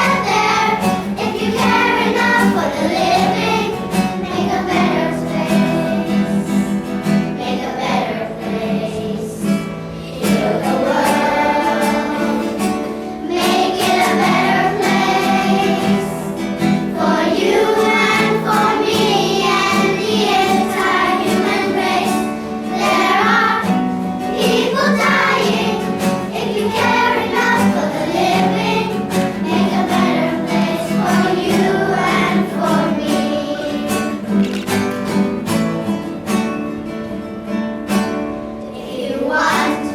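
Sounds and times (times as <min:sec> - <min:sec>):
children singing: 0:00.0 - 0:34.8, 0:38.6 - 0:39.9
guitar accompaniment: 0:00.0 - 0:39.9.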